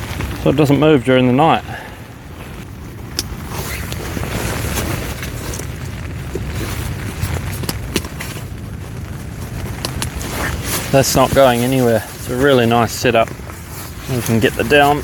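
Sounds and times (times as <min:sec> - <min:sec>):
low wind rumble: 0:00.0 - 0:15.0
sharp clicks and rustles: 0:02.4 - 0:15.0.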